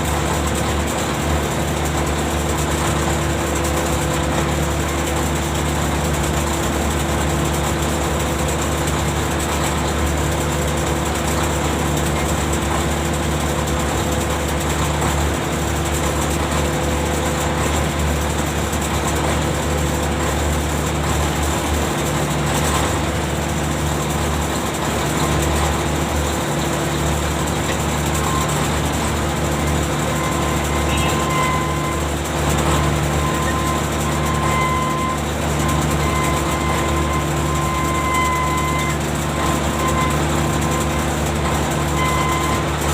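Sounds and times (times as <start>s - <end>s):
deck machinery humming: 0.0s - 42.9s.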